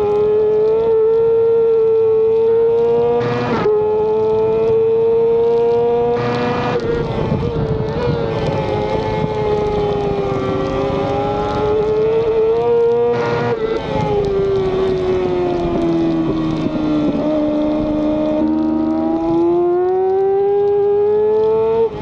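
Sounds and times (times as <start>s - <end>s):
motorcycle engine at high revs: 0.0s - 22.0s
wind rushing over microphone: 3.0s - 22.0s.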